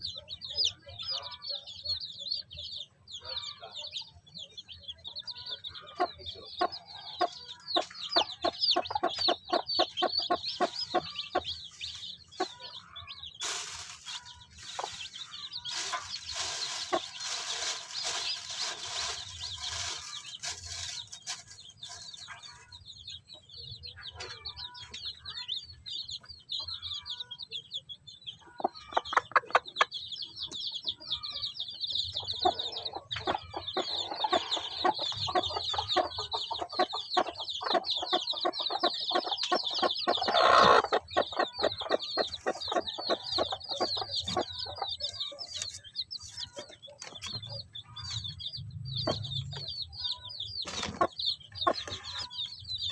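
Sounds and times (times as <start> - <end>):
chicks peeping: 0.0 - 52.9
hen clucking: 4.7 - 24.6, 28.3 - 52.9.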